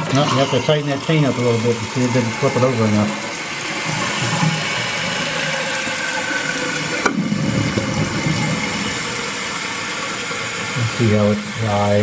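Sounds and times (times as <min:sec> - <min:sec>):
toilet tank refilling: 0:00.0 - 0:12.0.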